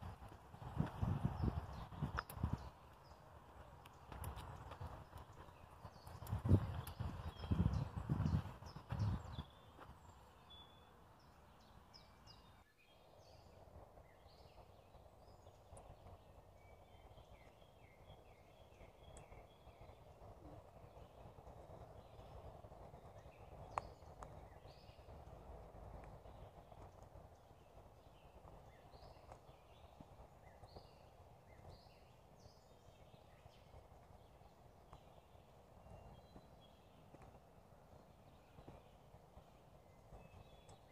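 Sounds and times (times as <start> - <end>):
songbirds chirping and whistling: 0.2 - 40.9.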